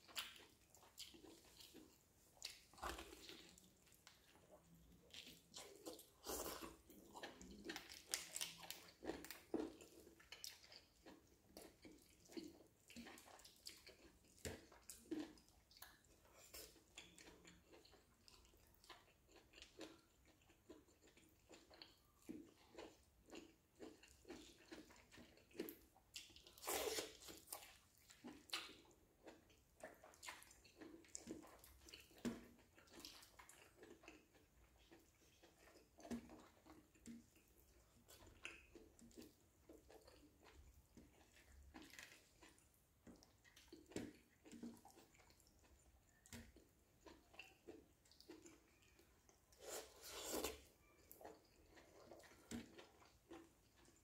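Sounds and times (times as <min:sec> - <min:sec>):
person chewing chicken: 0:00.0 - 0:54.0.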